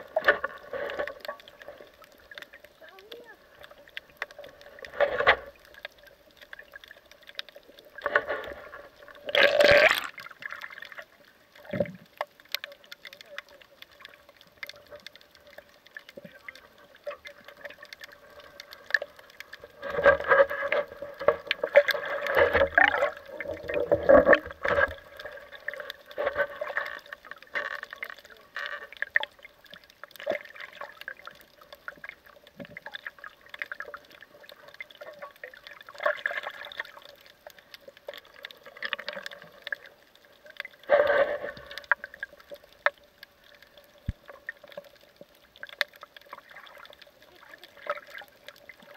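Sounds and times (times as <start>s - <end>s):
water sloshing and bubbling: 0.0s - 48.9s.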